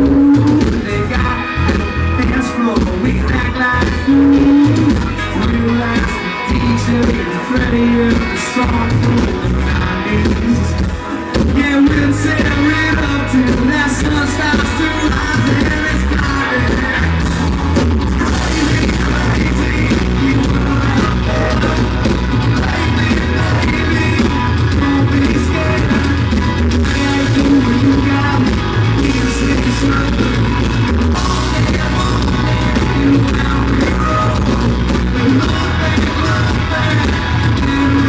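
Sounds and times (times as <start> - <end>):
country-rock band playing: 0.0 - 38.0
person singing: 0.0 - 38.0.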